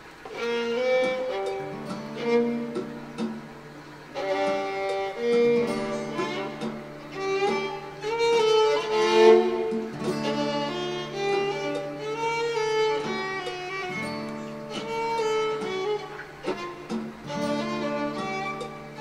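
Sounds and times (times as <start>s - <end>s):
bowed string melody: 0.0s - 19.0s
plucked string notes: 0.0s - 19.0s.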